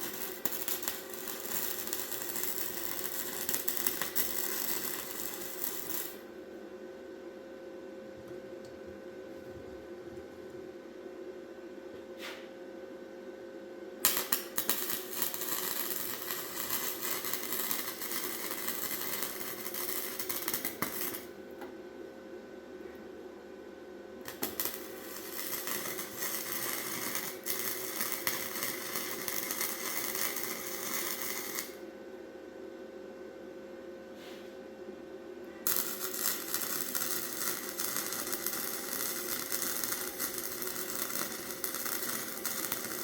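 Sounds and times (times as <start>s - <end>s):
shop hum: 0.0s - 43.0s.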